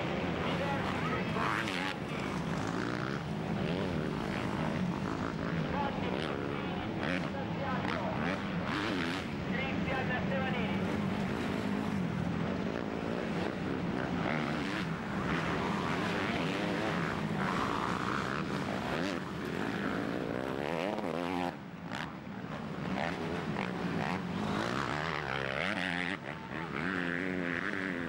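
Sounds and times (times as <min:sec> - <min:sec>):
motorbike engines revving: 0:00.0 - 0:28.0.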